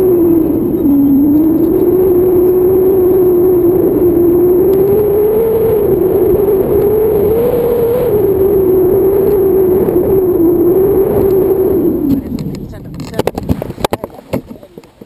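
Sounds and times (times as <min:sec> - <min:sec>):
droning whistle: 0:00.0 - 0:12.5
wind rushing over camera: 0:00.0 - 0:15.0.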